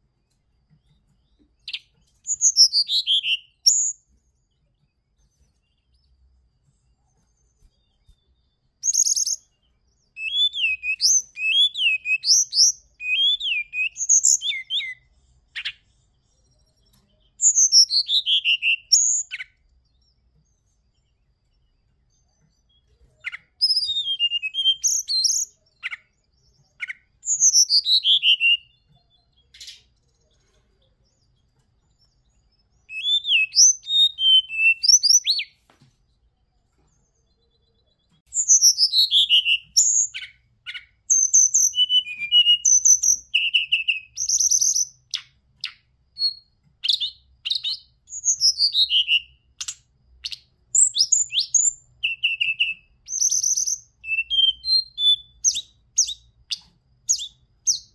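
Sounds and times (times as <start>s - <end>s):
bird song with whistles and trills: 0.0s - 57.9s.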